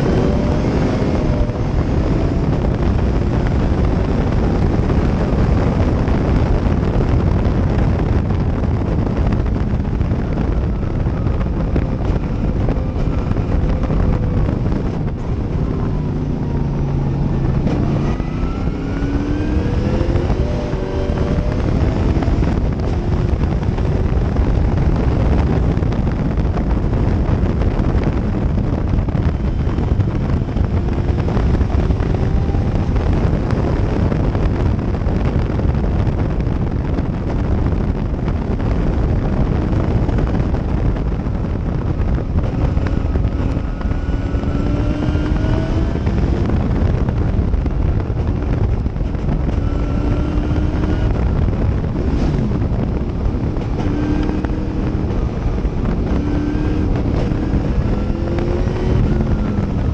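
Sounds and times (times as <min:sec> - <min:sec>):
racing car engine under load: 0:00.0 - 0:59.9
wind buffeting microphone: 0:00.0 - 0:59.9.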